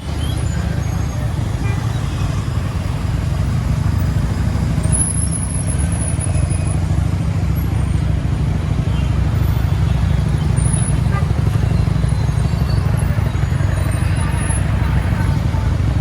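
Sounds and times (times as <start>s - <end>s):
motorbike riding in traffic: 0.0s - 16.0s.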